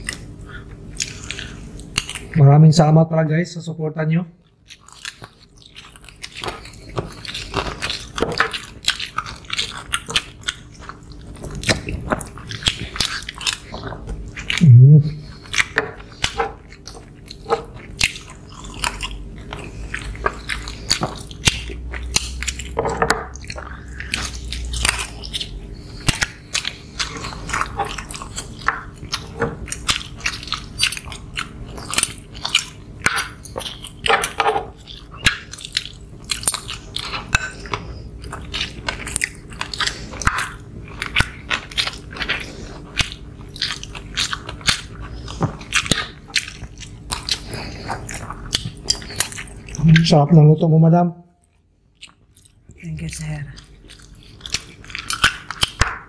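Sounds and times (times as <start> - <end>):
chewing and mouth smacks: 0.0 - 2.4, 4.4 - 50.2, 51.4 - 56.0.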